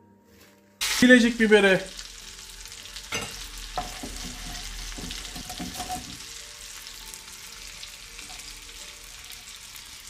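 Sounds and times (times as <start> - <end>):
food sizzling in a pan: 0.8 - 10.0.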